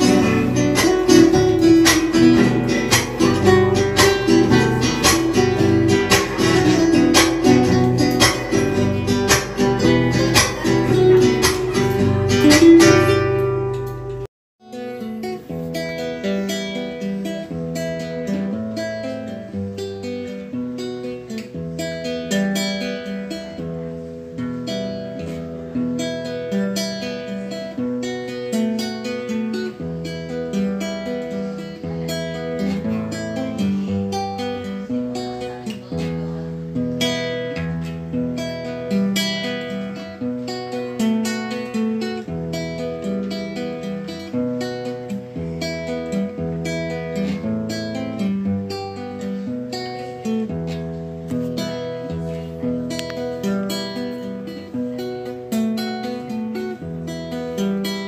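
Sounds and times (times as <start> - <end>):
strummed acoustic guitar chords: 0.0 - 58.0.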